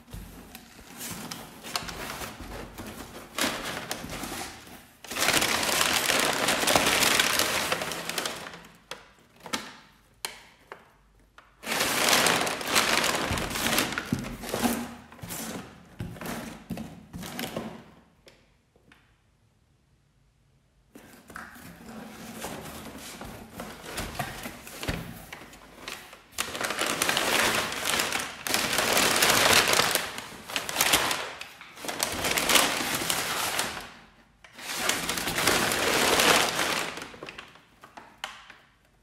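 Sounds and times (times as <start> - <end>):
cardboard crinkling and knocking: 0.0 - 10.8, 11.4 - 17.9, 21.0 - 38.7.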